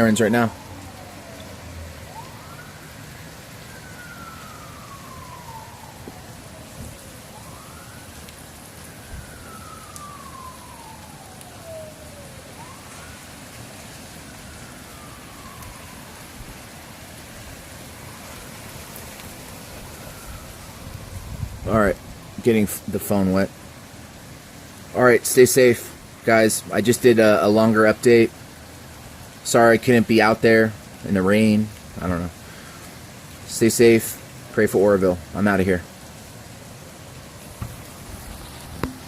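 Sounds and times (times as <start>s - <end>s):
emergency vehicle siren wailing: 0.0s - 39.0s
steady rain: 0.0s - 39.0s.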